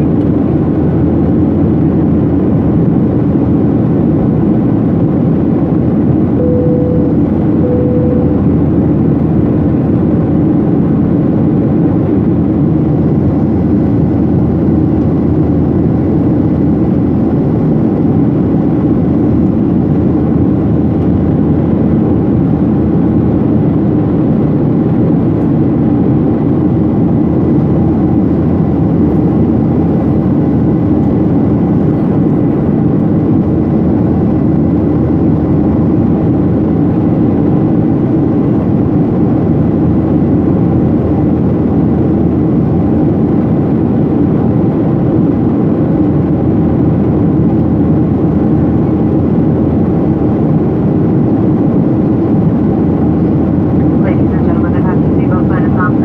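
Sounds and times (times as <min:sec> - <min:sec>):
jet engine and airflow in cabin: 0:00.0 - 0:56.0.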